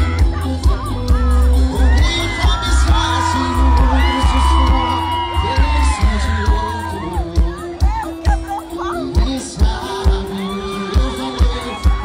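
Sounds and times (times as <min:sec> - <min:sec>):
live band music with bass beat: 0:00.0 - 0:12.0
crowd whooping and screaming: 0:01.0 - 0:12.0.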